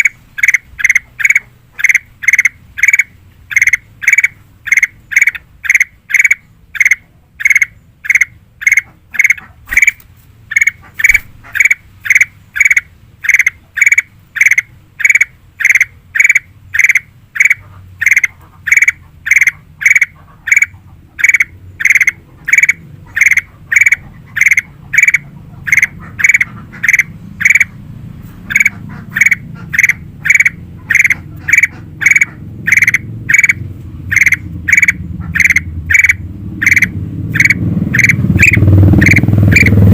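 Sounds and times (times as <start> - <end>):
bulbul calling: 0.0 - 27.8, 28.5 - 39.8.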